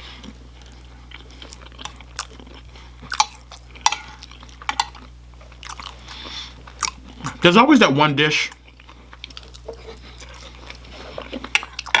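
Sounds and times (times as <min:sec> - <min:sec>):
person chewing food: 0:00.0 - 0:07.5, 0:08.5 - 0:12.0.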